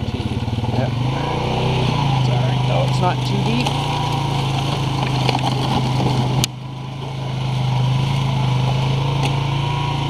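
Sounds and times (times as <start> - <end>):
atv engine running: 0.0 - 10.0.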